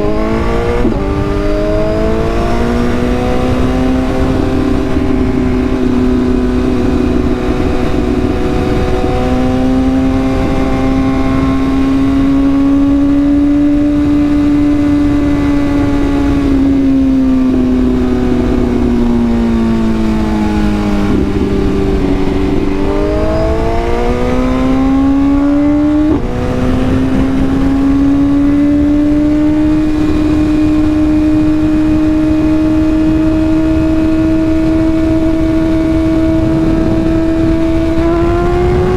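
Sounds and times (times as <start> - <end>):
motorcycle engine at high revs: 0.0 - 38.9
wind rush: 0.0 - 38.9.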